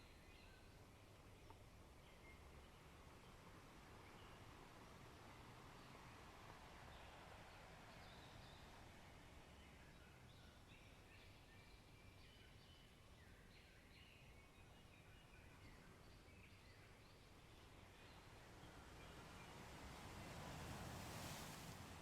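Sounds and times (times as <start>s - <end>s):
faint steady rushing noise: 0.7s - 12.1s, 14.8s - 22.0s.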